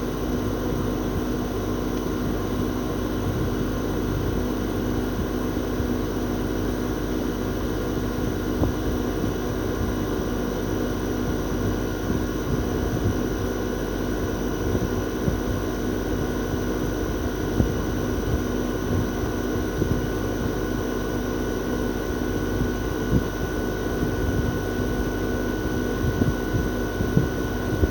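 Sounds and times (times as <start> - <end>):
compressor humming with whine: 0.0 - 27.9.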